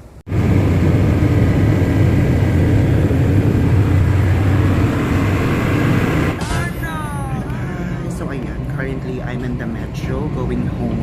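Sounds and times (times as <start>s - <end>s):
train rumble inside carriage: 0.3s - 11.0s.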